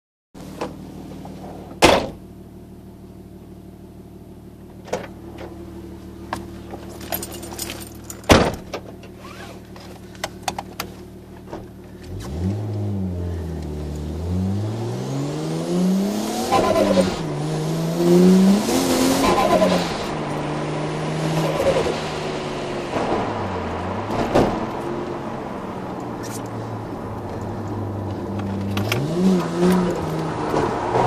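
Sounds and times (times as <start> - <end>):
car engine idling and revving: 0.4 - 31.0.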